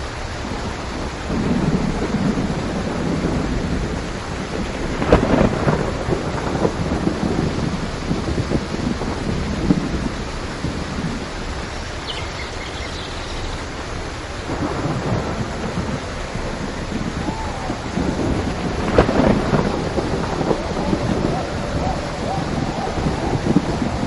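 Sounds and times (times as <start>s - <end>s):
heavy rain: 0.0s - 24.0s
thunder rumbling: 0.0s - 24.0s.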